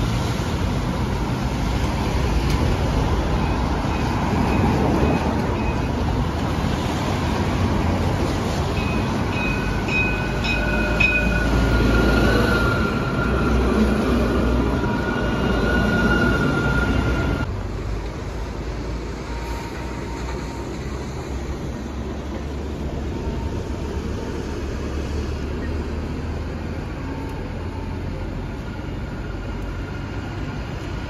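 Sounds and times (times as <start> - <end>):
road traffic: 0.0 - 31.0
tram passing on wet track: 0.0 - 31.0.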